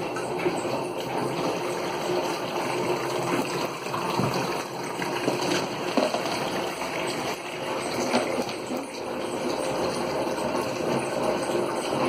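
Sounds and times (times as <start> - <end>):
water running into washing machine: 0.0 - 12.0.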